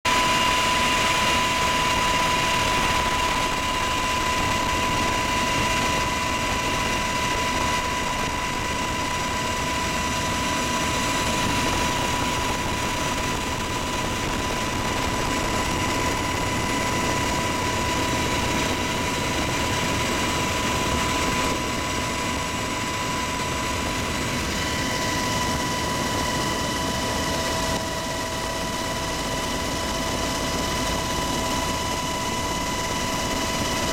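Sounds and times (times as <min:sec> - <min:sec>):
helicopter engine and rotor rumble: 0:00.0 - 0:33.9.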